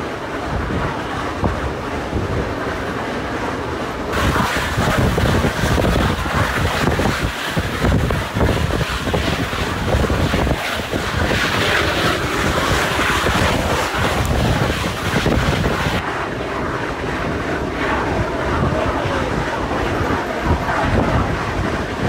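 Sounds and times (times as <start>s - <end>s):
steam train rumbling: 0.0s - 22.0s
wind buffeting microphone: 0.0s - 22.0s.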